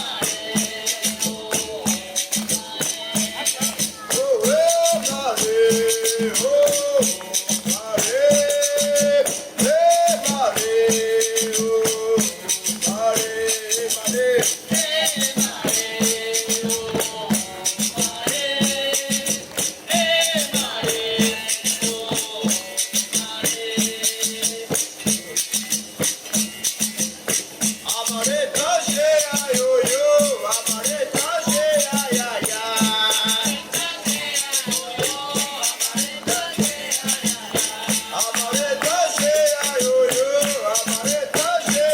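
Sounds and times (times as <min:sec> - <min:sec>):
shaken rattle: 0:00.0 - 0:41.9
tambourine-like jingles: 0:00.0 - 0:41.9.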